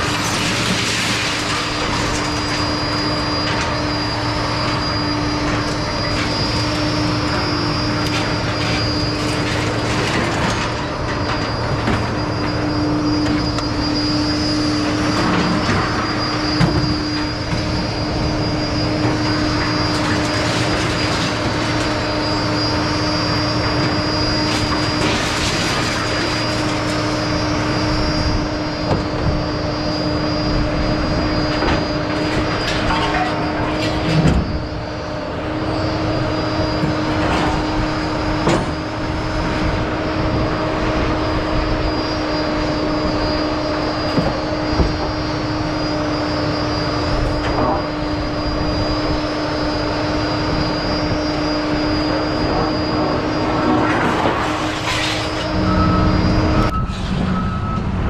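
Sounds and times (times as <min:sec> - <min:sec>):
machine running with hum and whine: 0:00.0 - 0:58.0.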